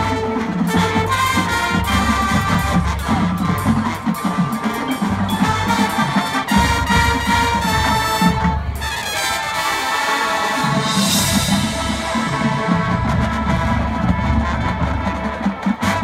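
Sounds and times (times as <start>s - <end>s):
brass holding chords: 0.0s - 16.0s.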